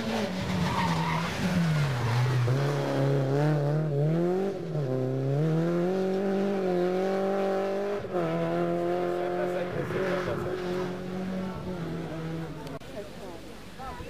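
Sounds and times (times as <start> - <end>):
rally car engine accelerating: 0.0 - 12.8.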